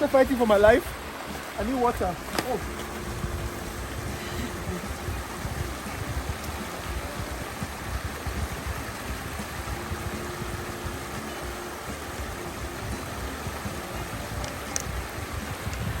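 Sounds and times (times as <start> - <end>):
mountain stream running: 0.0 - 16.0.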